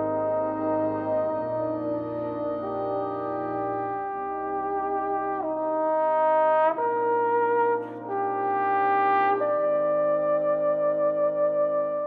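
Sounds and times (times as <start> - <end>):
brass playing held chords: 0.0 - 12.0.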